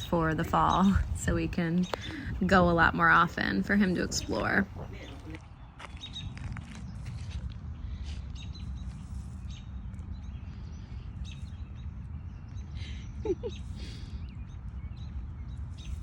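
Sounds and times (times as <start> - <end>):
birds chirping: 0.0 - 16.0
low outdoor rumble: 0.0 - 16.0.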